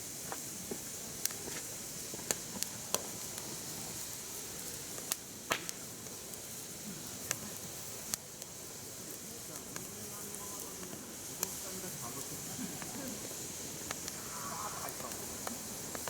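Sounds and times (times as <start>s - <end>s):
fire hissing: 0.0s - 16.0s
firewood crackling: 0.0s - 16.0s.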